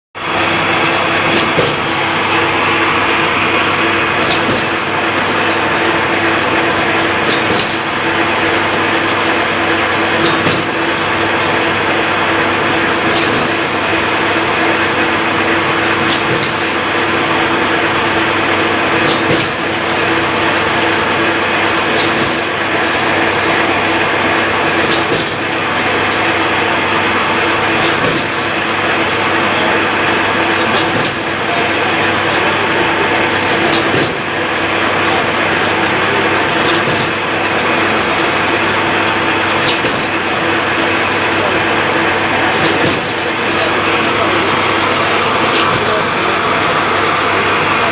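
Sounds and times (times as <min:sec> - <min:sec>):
machine mechanical hum: 0:00.2 - 0:47.9.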